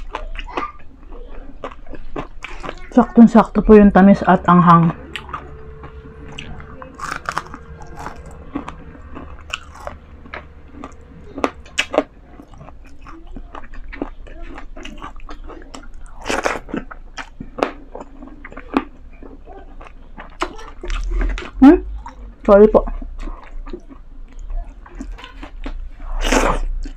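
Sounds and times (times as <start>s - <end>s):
person chewing noodles: 0.0s - 3.0s, 4.9s - 26.9s.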